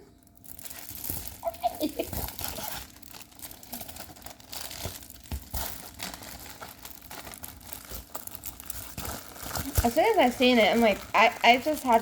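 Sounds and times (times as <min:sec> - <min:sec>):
plastic packaging crinkling: 0:00.3 - 0:12.0.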